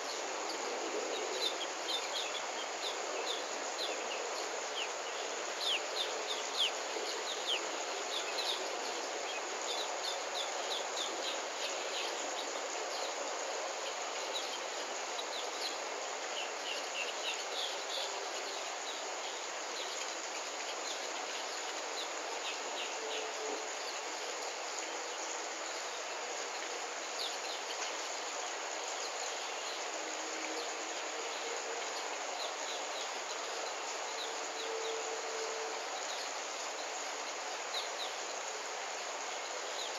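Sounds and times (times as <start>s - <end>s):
insects hissing: 0.0s - 39.9s.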